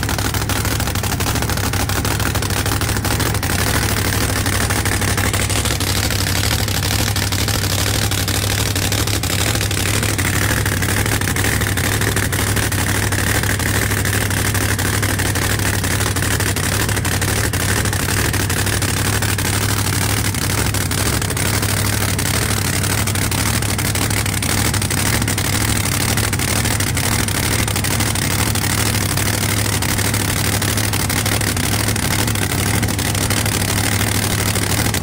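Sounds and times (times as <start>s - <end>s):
car engine idling loudly: 0.0s - 35.0s.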